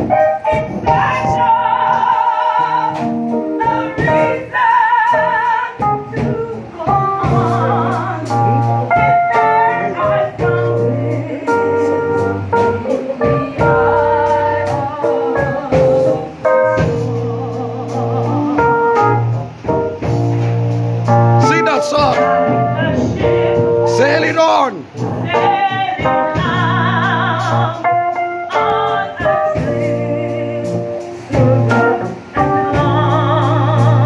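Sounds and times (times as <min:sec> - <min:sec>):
band playing: 0:00.0 - 0:34.0
woman singing: 0:00.4 - 0:19.2, 0:22.2 - 0:23.9, 0:25.1 - 0:34.0.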